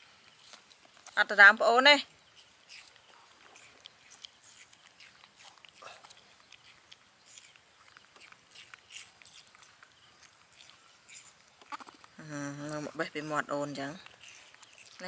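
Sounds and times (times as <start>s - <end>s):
monkeys chewing: 0.0s - 15.0s.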